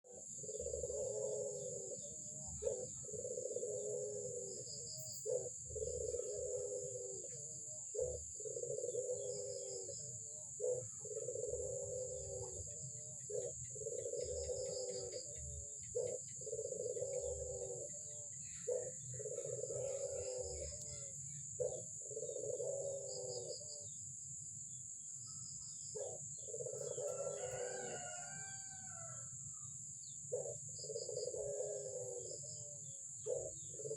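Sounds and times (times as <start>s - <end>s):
dove cooing: 0.0s - 24.1s, 25.9s - 33.9s.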